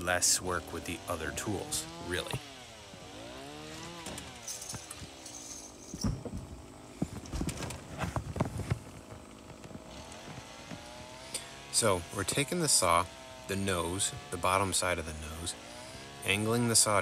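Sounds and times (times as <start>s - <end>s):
chainsaw revving and idling: 0.0s - 7.1s, 7.8s - 17.0s.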